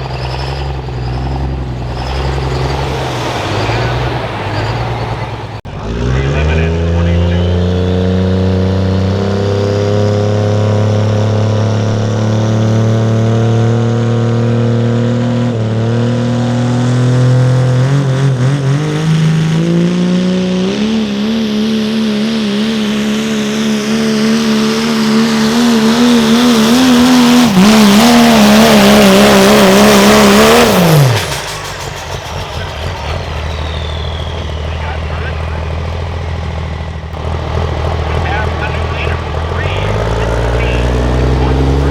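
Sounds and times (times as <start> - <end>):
diesel truck engine under load: 0.0 - 41.9.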